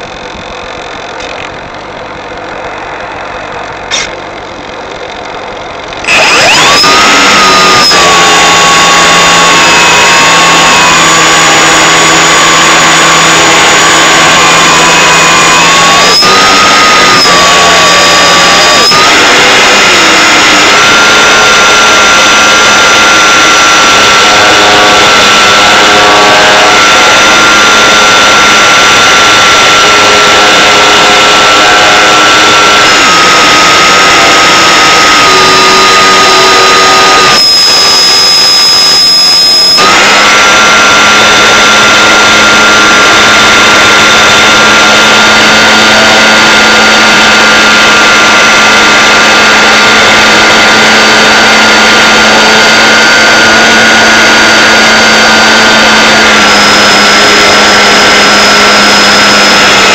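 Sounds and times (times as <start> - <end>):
electric motor whine: 0.0 - 59.9.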